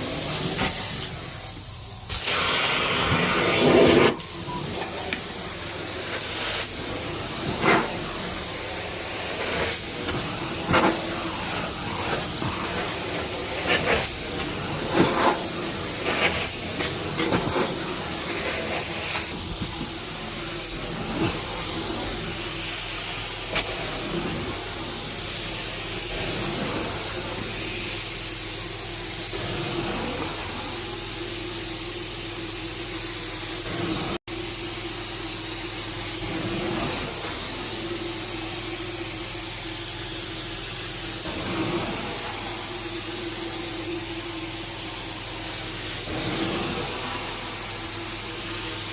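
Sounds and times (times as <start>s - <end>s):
cleaning machine hum: 0.0s - 48.9s.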